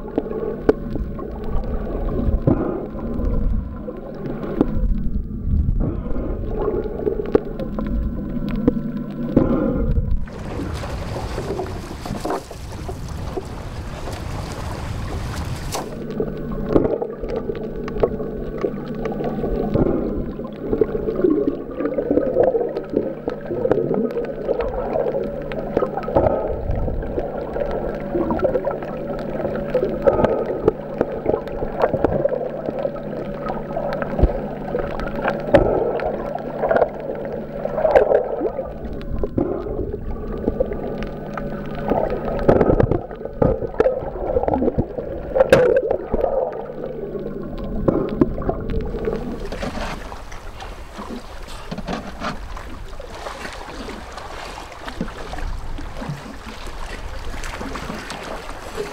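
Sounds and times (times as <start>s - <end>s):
bubbles crackling and clicks: 0.0s - 58.9s
steady low hum: 0.0s - 58.9s
water moving underwater: 0.0s - 58.9s.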